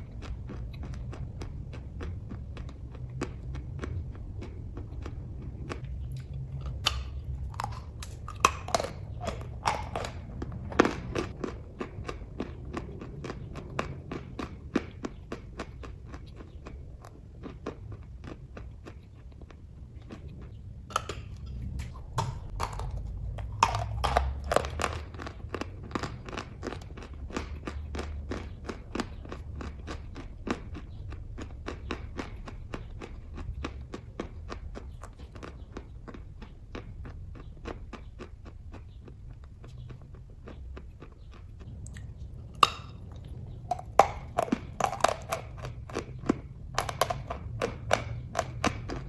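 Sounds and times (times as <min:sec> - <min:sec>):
person chewing: 0:00.0 - 0:49.0.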